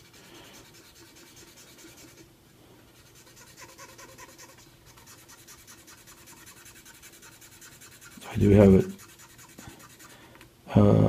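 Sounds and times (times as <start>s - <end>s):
cotton swab scratching plastic: 0.0s - 2.3s, 2.9s - 10.2s.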